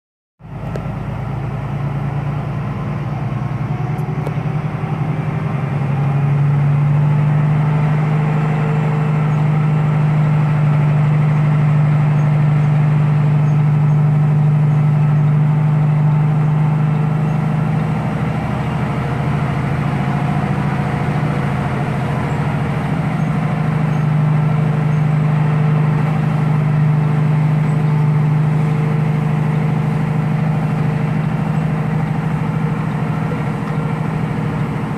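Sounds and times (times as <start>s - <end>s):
truck diesel engine running: 0.4s - 34.9s.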